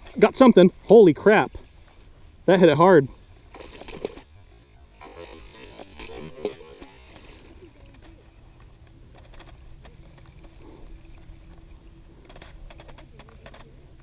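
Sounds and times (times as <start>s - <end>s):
wind and handling rumble: 0.0s - 14.0s.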